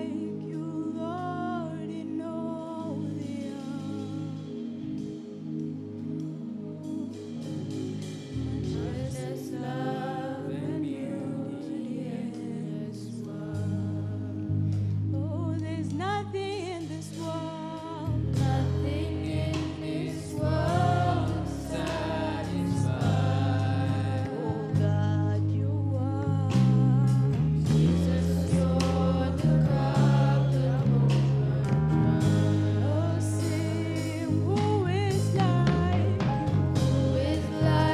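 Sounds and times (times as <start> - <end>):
voices singing gospel song: 0.0 - 37.9.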